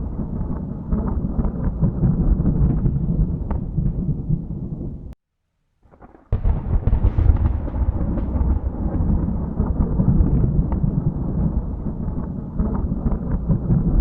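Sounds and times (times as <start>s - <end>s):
low thunder rumble with crackles: 0.0s - 5.2s, 5.9s - 14.0s
thunder clap: 0.0s - 5.2s, 5.9s - 14.0s.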